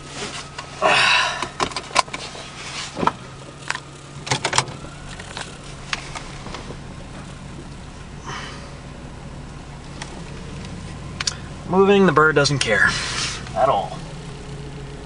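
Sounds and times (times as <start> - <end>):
seatbelt webbing rustle: 0.0 - 8.1, 9.4 - 14.9
car engine idling: 0.0 - 15.0.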